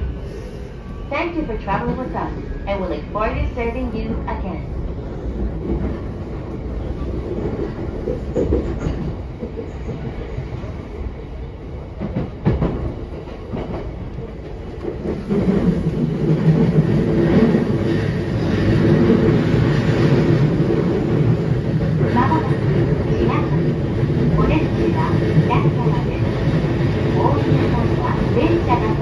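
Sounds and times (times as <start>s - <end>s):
train car rumbling: 0.0s - 29.0s.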